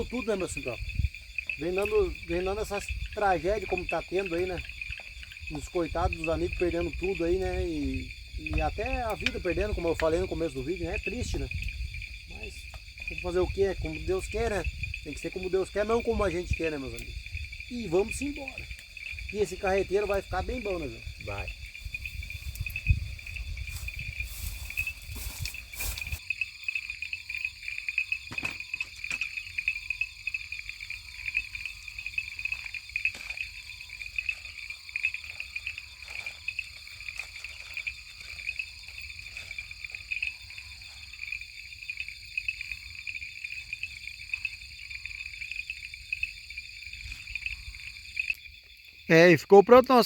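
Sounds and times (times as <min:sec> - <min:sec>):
frogs and insects trilling: 0:00.0 - 0:50.0.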